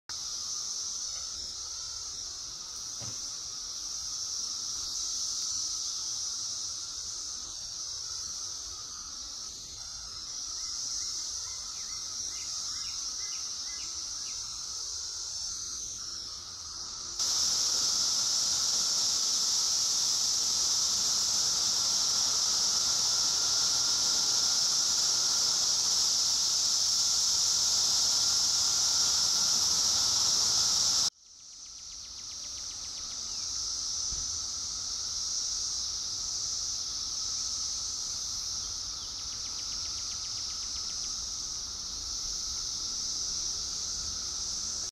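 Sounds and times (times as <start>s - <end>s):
cicada chorus: 0.1s - 44.9s.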